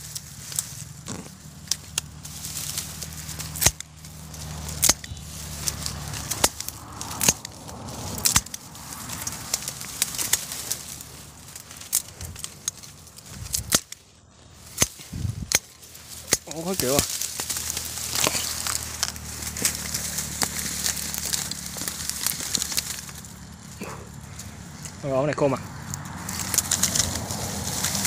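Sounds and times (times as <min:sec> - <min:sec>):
scissors cutting reeds: 0:00.0 - 0:25.0, 0:25.8 - 0:28.0
dry reeds crackling and snapping: 0:00.0 - 0:28.0
low hum: 0:00.0 - 0:28.0.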